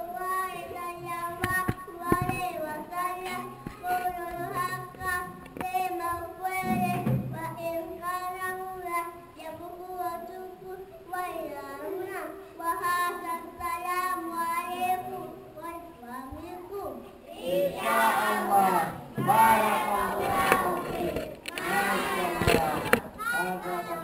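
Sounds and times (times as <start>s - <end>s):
boy chanting: 0.0s - 24.0s.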